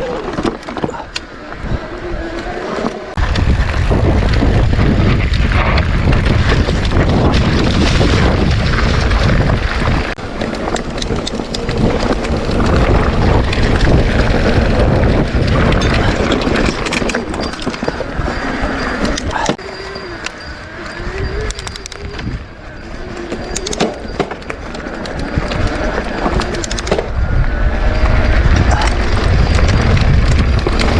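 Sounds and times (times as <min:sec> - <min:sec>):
wind buffeting microphone: 0:00.0 - 0:30.9
bike rattling clicks: 0:02.2 - 0:30.9.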